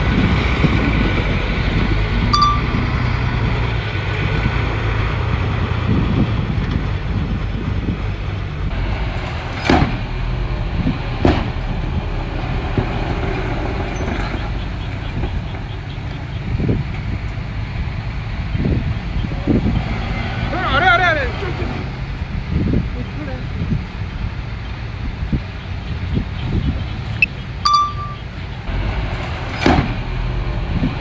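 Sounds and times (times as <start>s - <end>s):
bulldozer diesel engine rumbling: 0.0s - 31.0s.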